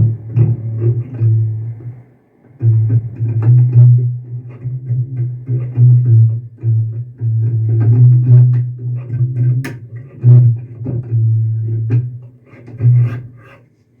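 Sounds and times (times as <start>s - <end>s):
double bass plucked low notes: 0.0s - 13.4s.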